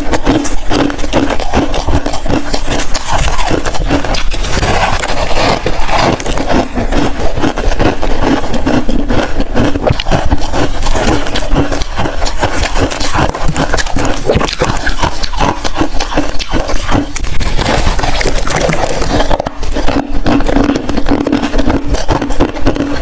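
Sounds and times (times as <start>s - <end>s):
chewing ice crunching: 0.0s - 23.0s.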